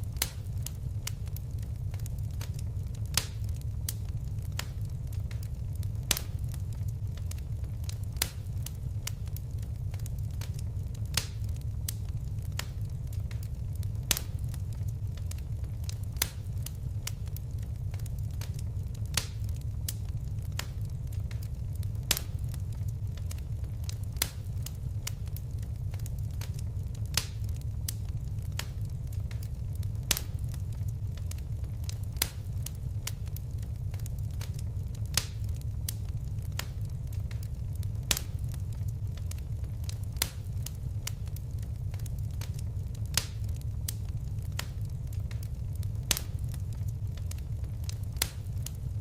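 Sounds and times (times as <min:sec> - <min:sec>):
fire crackling and popping: 0:00.0 - 0:49.0.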